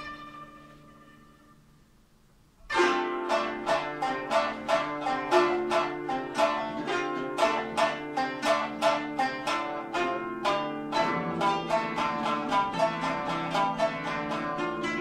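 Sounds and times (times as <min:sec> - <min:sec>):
plucked string ensemble: 0:00.0 - 0:01.8, 0:02.6 - 0:15.0.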